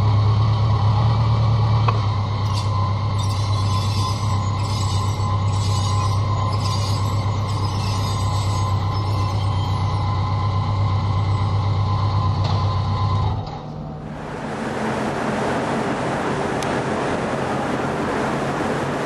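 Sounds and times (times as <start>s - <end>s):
low machinery drone: 0.0s - 19.0s.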